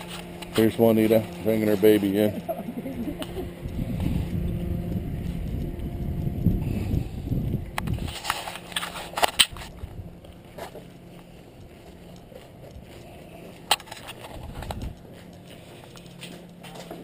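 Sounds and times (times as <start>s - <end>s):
footsteps on concrete: 0.0s - 6.6s, 7.4s - 17.0s.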